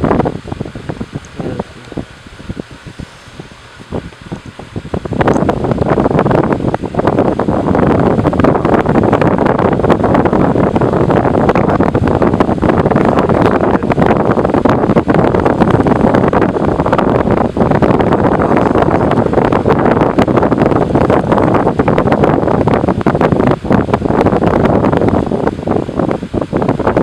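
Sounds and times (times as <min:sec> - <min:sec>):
fan wind noise on microphone: 0:00.0 - 0:27.0.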